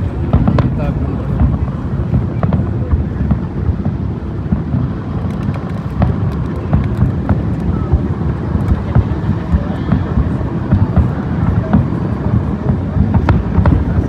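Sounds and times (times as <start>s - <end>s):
fireworks booming: 0.0s - 14.0s
fireworks pops and crackles: 0.0s - 14.0s.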